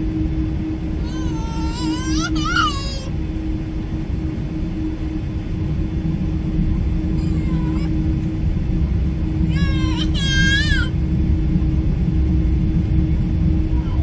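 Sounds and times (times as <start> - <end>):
airliner cabin engine rumble: 0.0 - 14.0
constant hum: 0.0 - 14.0.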